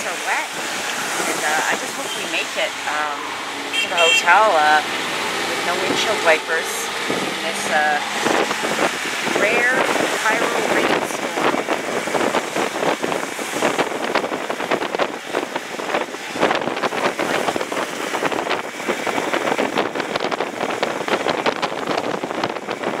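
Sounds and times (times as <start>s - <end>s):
car road and wind noise: 0.0s - 23.0s.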